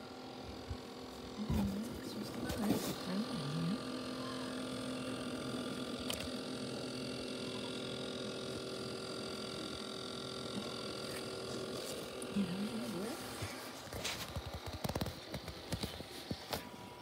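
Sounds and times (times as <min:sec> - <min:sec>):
electric hum of party lights: 0:00.0 - 0:17.0.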